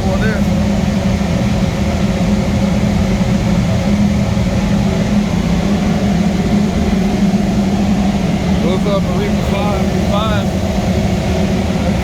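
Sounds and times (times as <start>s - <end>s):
boiler burner rumbling hum: 0.0s - 12.0s
constant low hum: 0.0s - 12.0s.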